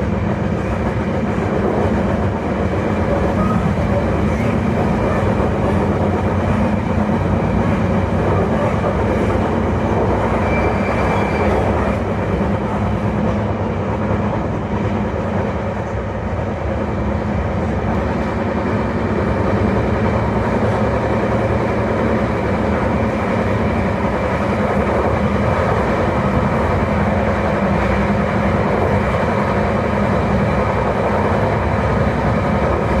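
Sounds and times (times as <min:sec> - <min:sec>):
electric train motor rumbling: 0:00.0 - 0:33.0.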